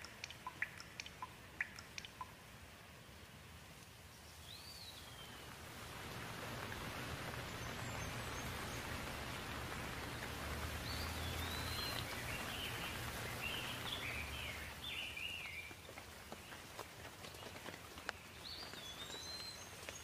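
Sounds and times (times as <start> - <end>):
birds chirping: 0.0 - 3.3, 4.0 - 20.0
steady rain falling: 0.0 - 20.0.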